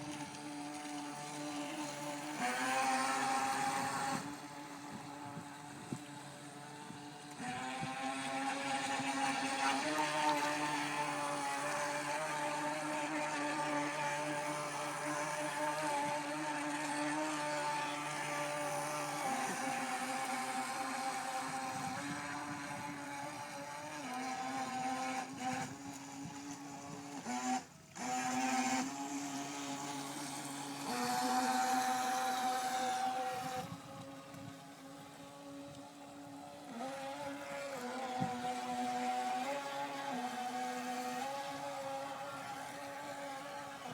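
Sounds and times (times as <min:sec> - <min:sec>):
electric rc boat motor whine: 0:00.0 - 0:43.9.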